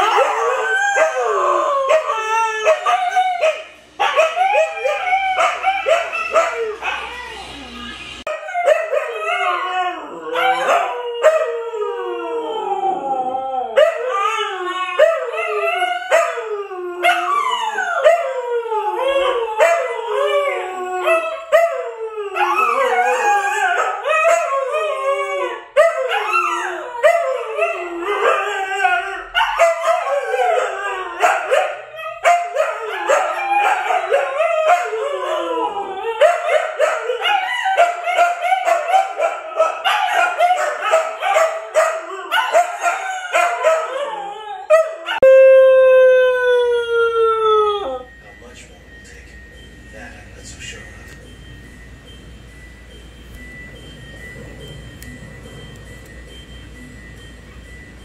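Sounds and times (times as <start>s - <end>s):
dogs howling: 0.0s - 49.6s.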